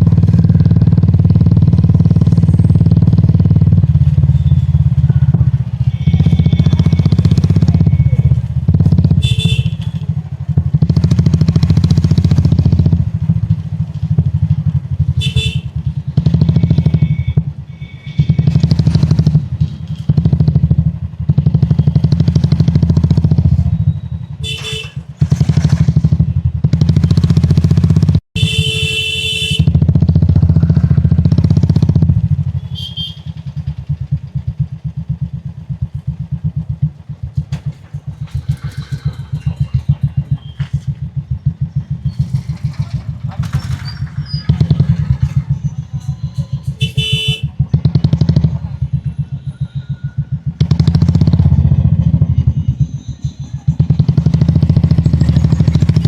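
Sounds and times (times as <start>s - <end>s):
motorcycle engine thumping: 0.0s - 49.6s, 50.2s - 53.0s.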